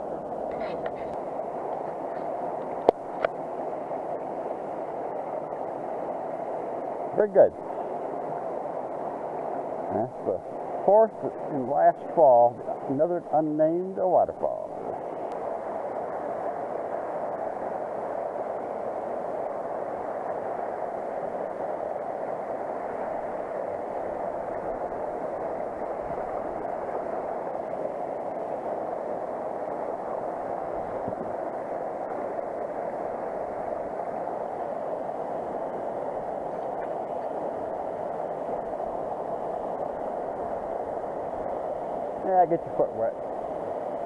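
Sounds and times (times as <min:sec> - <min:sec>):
creek water over rocks: 0:00.0 - 0:44.0
small waterfall rushing: 0:00.0 - 0:44.0.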